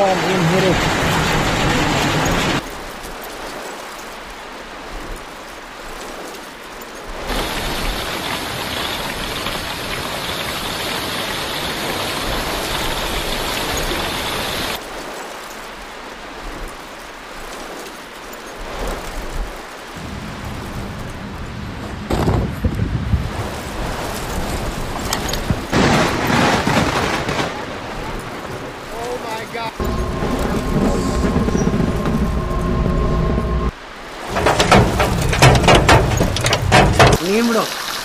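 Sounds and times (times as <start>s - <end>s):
heavy rain and hail: 0.0s - 38.0s.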